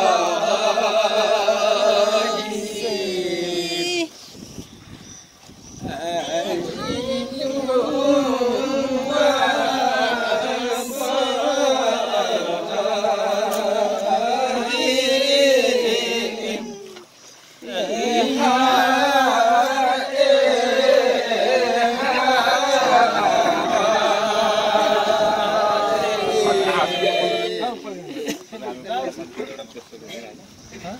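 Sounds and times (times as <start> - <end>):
group singing long wavering notes: 0.0 - 4.2, 5.9 - 28.0.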